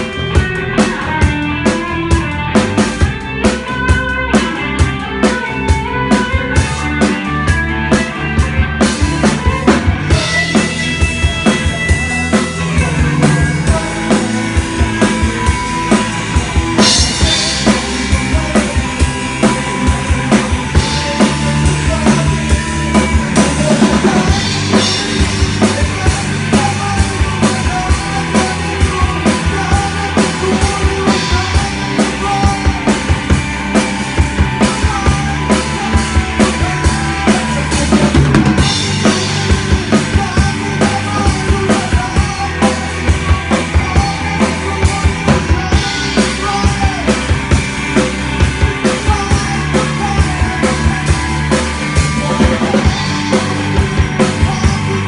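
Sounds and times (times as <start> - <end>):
band playing live: 0.0 - 55.0
drum kit beat: 0.0 - 55.0.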